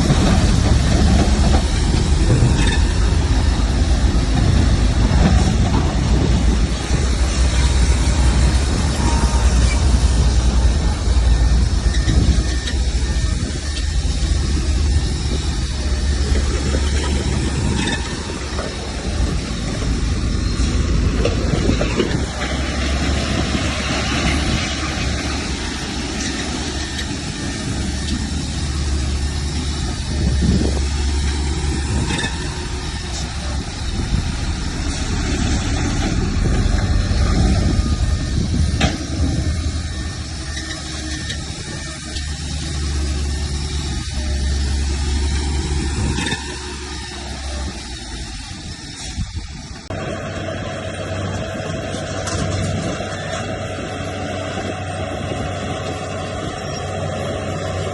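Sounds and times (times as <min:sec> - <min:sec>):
heavy diesel engine rumbling: 0:00.0 - 0:57.9.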